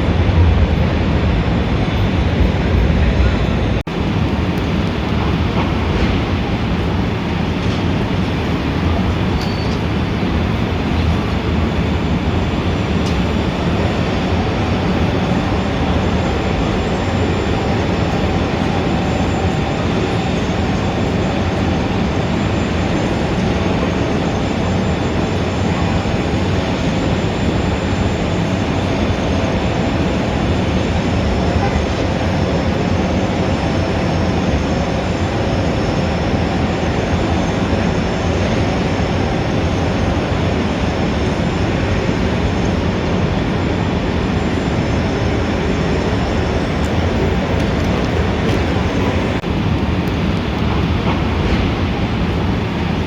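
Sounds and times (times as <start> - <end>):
street traffic rumble: 0.0 - 53.0.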